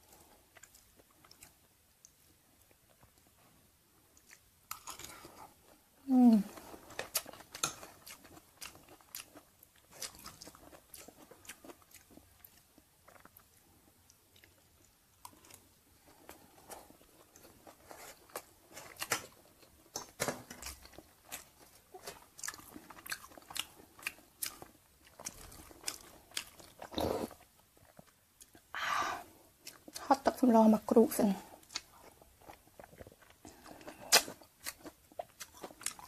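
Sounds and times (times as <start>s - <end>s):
wet chewing and crunching: 0.0s - 3.4s, 4.1s - 5.6s, 6.5s - 28.7s, 29.6s - 30.2s, 31.5s - 36.0s.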